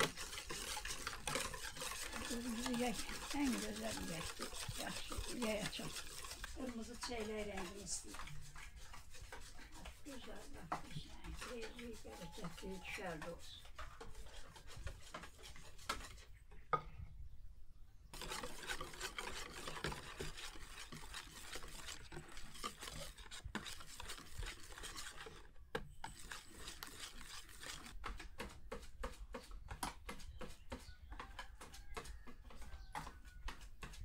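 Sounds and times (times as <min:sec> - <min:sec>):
utensil scraping a bowl: 0:00.0 - 0:17.0, 0:18.1 - 0:34.0.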